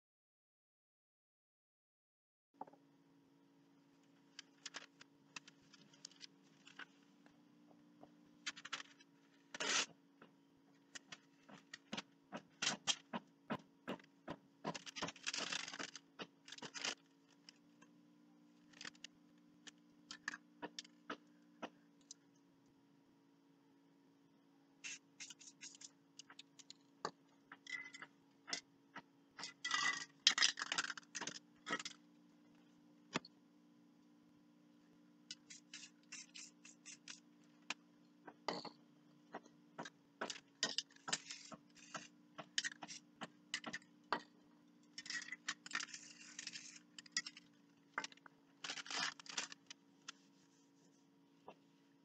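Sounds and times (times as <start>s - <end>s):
faint steady hum: 2.6s - 52.0s.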